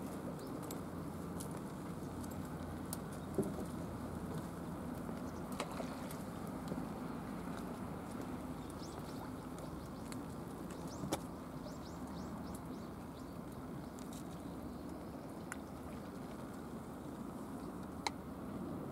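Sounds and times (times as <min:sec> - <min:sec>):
low outdoor background noise: 0:00.0 - 0:18.9
water lapping against a wall: 0:00.6 - 0:18.3.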